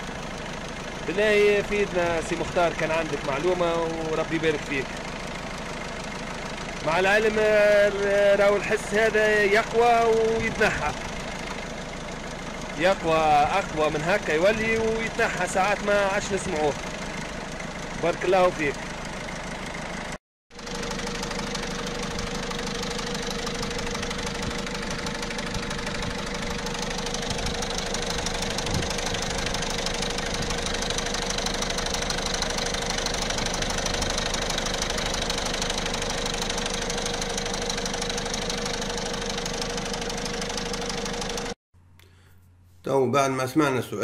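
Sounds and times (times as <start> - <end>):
diesel engine running: 0.0 - 42.4.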